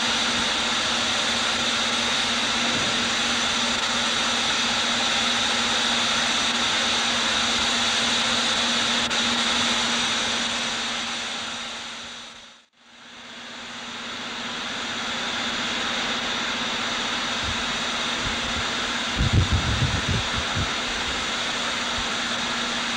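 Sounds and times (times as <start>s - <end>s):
steam hissing roar: 0.0s - 22.9s.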